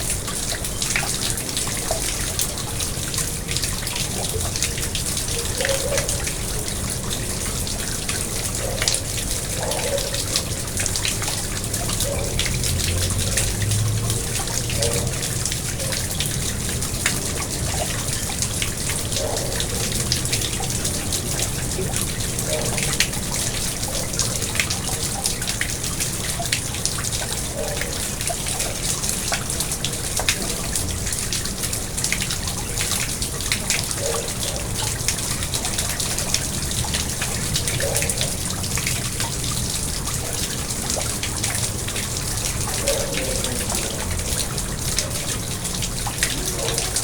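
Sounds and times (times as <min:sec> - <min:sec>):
pond water trickling and splashing: 0:00.0 - 0:47.0.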